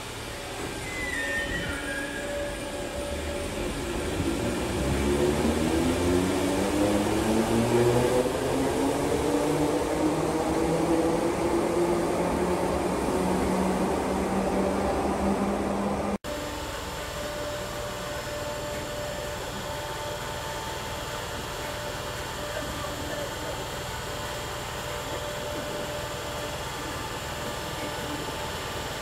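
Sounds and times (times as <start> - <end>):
train traction motors whining: 0.0 - 29.0
wheels rumbling on rail: 0.0 - 29.0.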